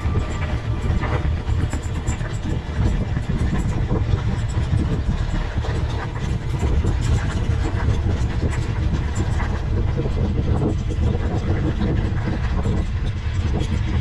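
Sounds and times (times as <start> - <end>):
wind and ground rumble: 0.0 - 14.0.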